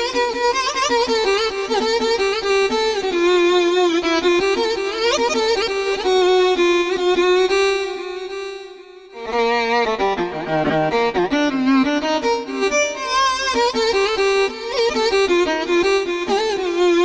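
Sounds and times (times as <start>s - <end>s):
keyboard violin melody with vibrato: 0.0s - 17.0s.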